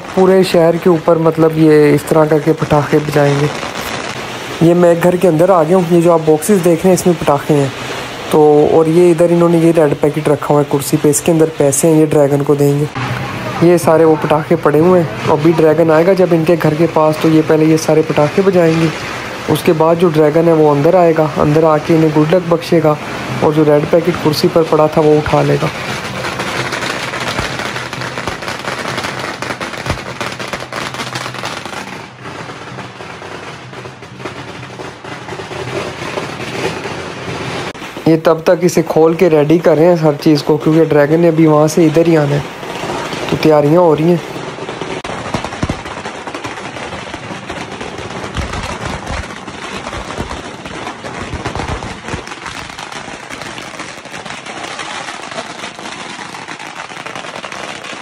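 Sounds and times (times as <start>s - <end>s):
loud firecracker bangs: 0.0s - 38.4s, 39.0s - 58.0s
firecrackers crackling: 0.0s - 58.0s.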